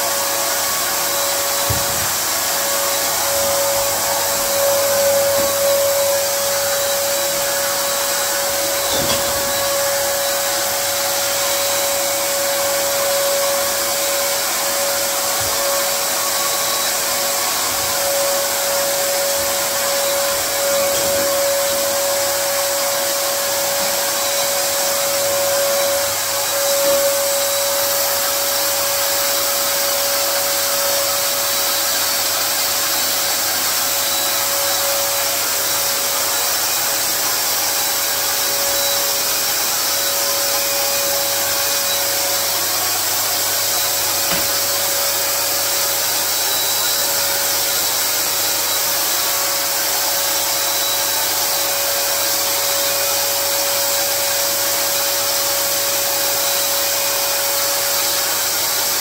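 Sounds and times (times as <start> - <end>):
paint spray gun running: 0.0 - 59.0.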